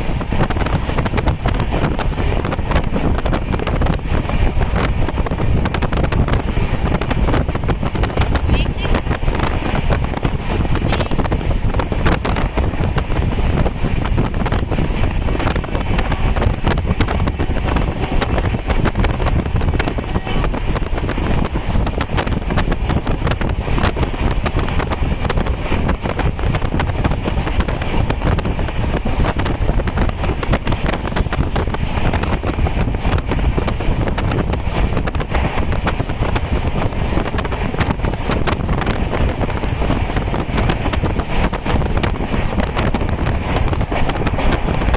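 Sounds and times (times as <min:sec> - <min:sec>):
wind buffeting the microphone: 0:00.0 - 0:44.9.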